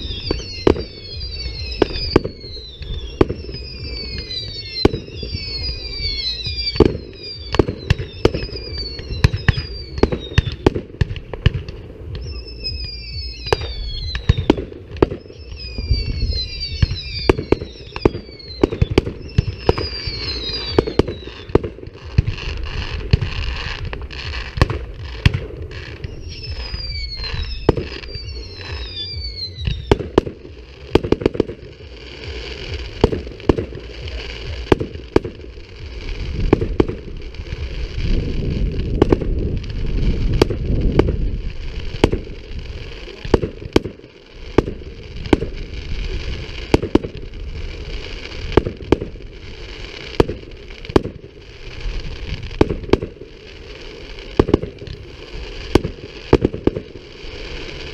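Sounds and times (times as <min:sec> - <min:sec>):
firework bangs: 0:00.0 - 0:57.9
firework whistles falling in pitch: 0:00.0 - 0:57.9
steady low rumble: 0:00.0 - 0:57.9.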